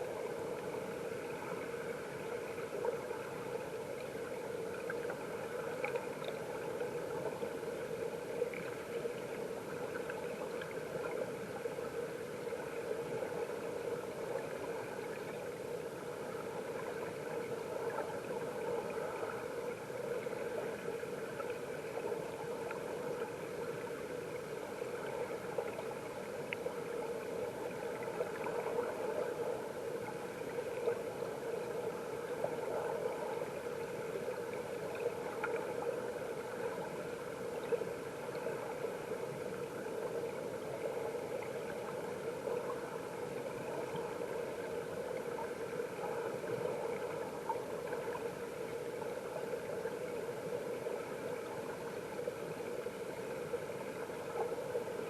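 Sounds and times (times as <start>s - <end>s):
muffled underwater stream rush: 0.0s - 55.0s.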